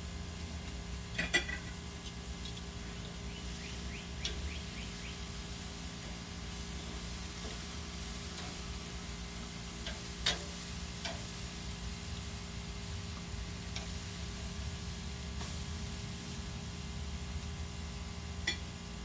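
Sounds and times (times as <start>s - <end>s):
steady low hum: 0.0s - 19.0s
fire crackling and popping: 0.4s - 18.8s.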